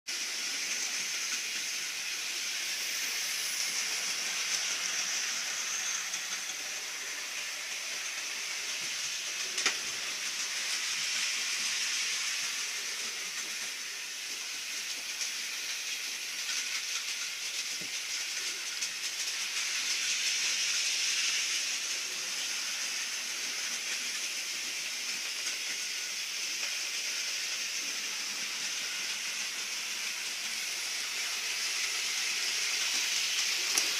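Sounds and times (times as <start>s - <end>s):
steady hissing noise: 0.1s - 33.9s.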